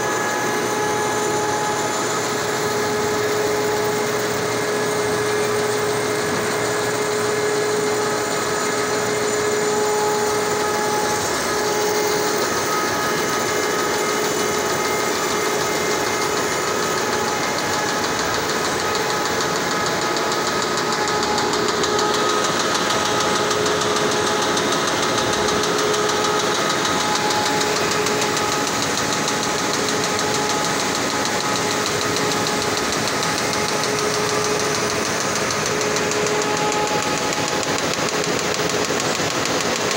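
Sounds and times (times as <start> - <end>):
machine humming tones: 0.0 - 39.9
rapid machine clatter: 0.0 - 39.9.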